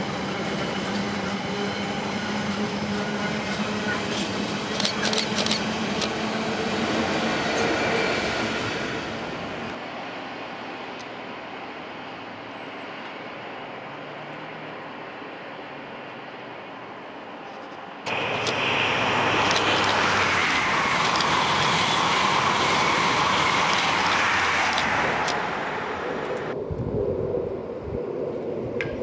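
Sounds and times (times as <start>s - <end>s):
distant diesel locomotive rumble: 0.0s - 26.7s
express train rushing past: 0.0s - 29.0s.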